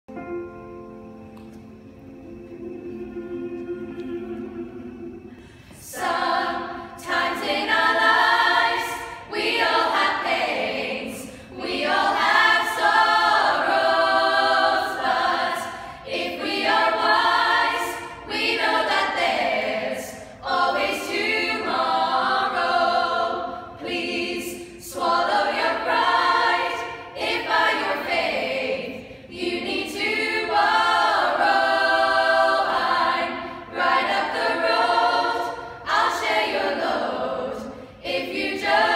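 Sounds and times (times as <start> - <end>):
women's choir singing a cappella: 2.0 - 38.9.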